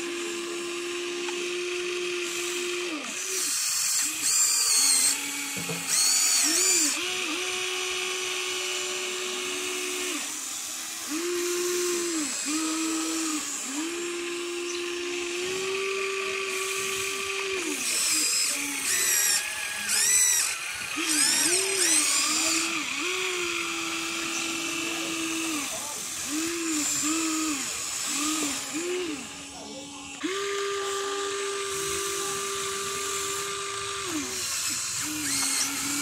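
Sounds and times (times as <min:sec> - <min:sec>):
electric motors whining: 0:00.0 - 0:36.0.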